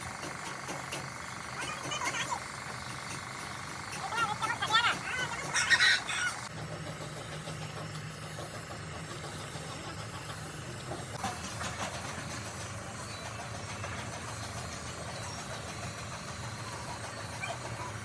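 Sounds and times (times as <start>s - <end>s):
truck diesel engine idling: 0.0s - 18.0s.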